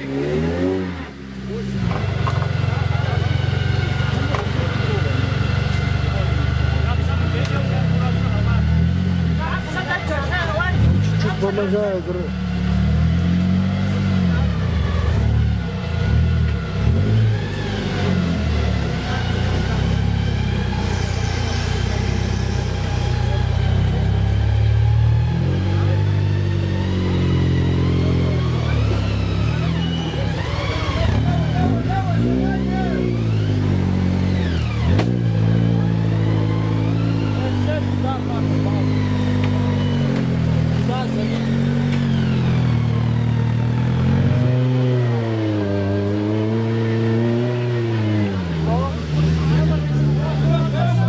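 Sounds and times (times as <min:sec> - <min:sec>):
off-road vehicle engine under load: 0:00.0 - 0:51.0.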